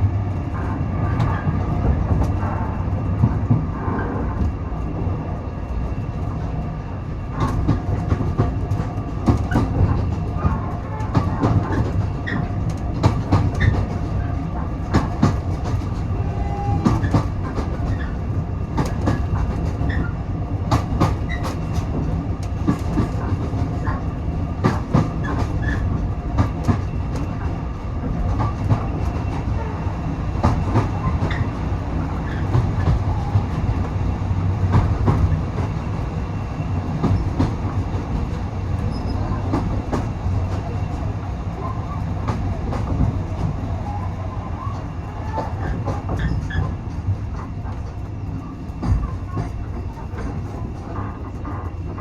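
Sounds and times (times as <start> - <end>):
train carriage rumble: 0.0 - 52.0
wheels clicking on rails: 0.3 - 52.0.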